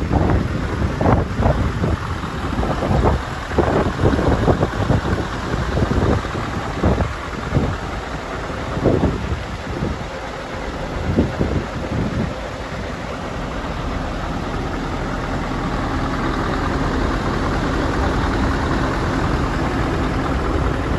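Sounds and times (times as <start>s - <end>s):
truck diesel engine idling: 0.0s - 20.9s
wind buffeting microphone: 0.0s - 20.9s.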